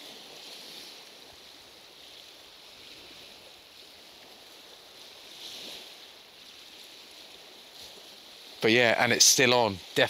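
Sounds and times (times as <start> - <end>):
sea water washing on shore: 0.0 - 10.0.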